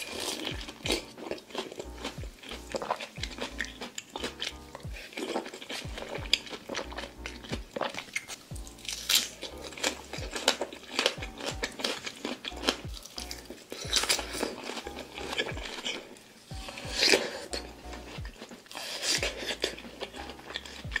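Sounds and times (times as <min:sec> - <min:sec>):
biting and chewing fruit: 0:00.0 - 0:21.0
soft lo-fi music with beat: 0:00.0 - 0:21.0.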